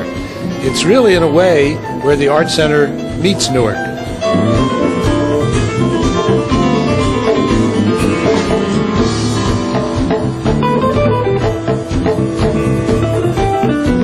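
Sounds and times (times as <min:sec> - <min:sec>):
music with guitar and drums: 0:00.0 - 0:14.0.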